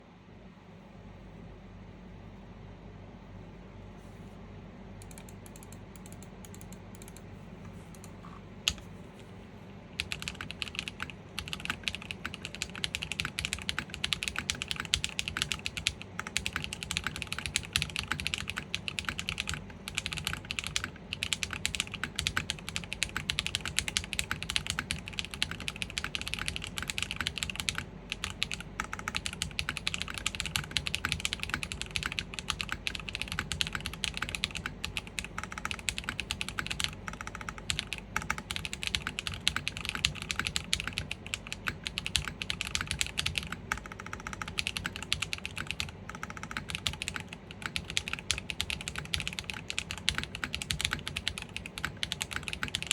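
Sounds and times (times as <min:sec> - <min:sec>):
mechanical keyboard typing: 0:05.0 - 0:08.9, 0:10.0 - 0:52.9.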